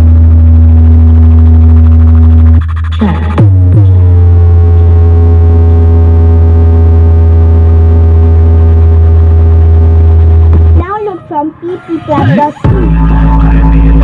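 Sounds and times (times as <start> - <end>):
deep bass tone through speakers: 0.0 - 14.0.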